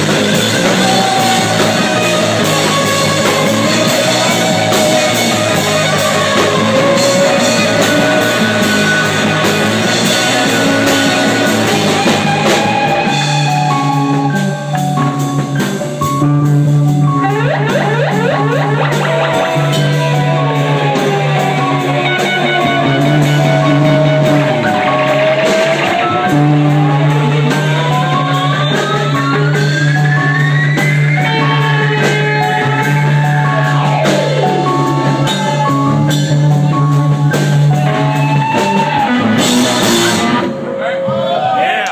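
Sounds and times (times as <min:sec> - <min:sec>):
long sliding melodic notes: 0:00.0 - 0:41.6
rock band playing: 0:00.0 - 0:41.8
drums: 0:00.0 - 0:41.9.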